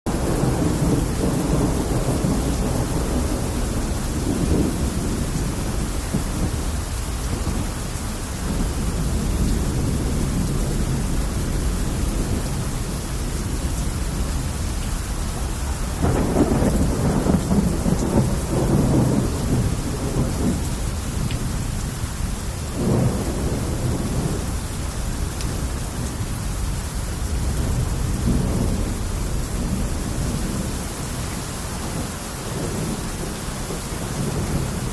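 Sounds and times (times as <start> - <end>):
heavy rain falling: 0.1 - 34.9
thunder rumbling: 0.1 - 34.9.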